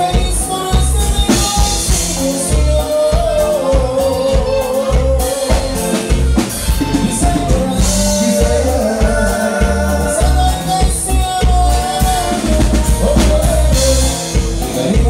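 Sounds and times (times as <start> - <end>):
live dance band playing: 0.0 - 15.0
person singing: 0.0 - 15.0.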